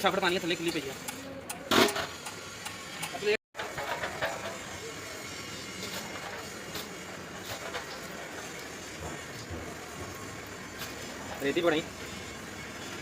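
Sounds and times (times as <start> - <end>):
workshop background noise: 0.0 - 13.0.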